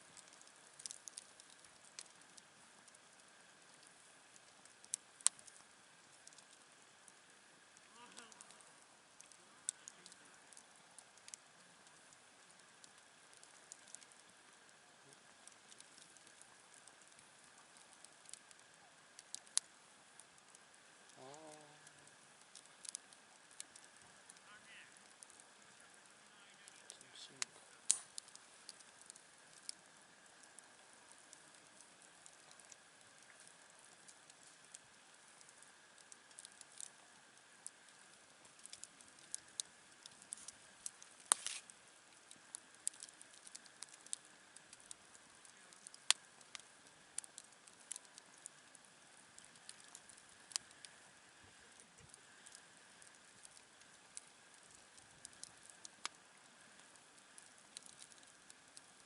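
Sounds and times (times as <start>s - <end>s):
campfire crackling: 0.0s - 59.0s
fire pops and snaps: 0.1s - 59.0s.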